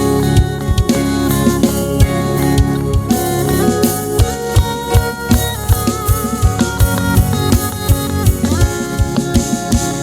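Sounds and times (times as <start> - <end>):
guitar playing chords: 0.0 - 10.0.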